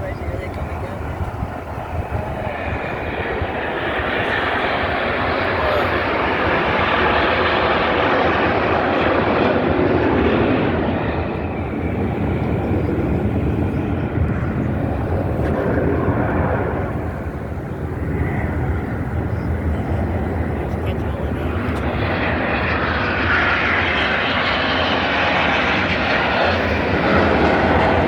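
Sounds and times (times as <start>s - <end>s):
airplanes flying overhead: 0.0s - 28.0s.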